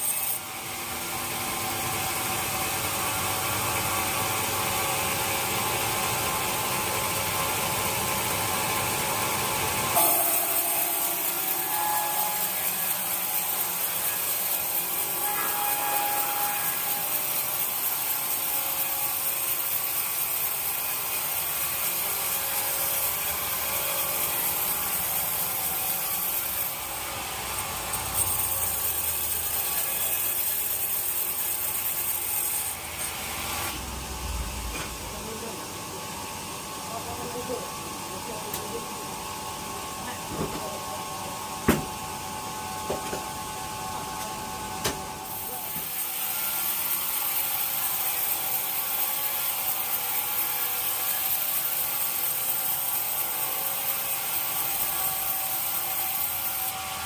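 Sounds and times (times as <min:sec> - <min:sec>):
saw cutting through wood: 0:00.0 - 0:38.9, 0:44.7 - 0:57.0.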